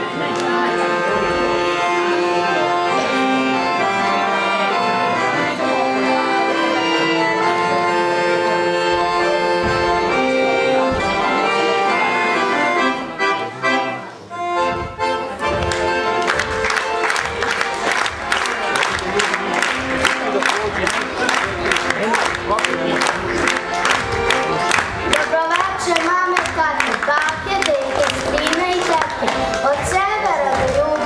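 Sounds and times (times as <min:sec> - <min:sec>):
accordion playing folk tune: 0:00.0 - 0:31.0.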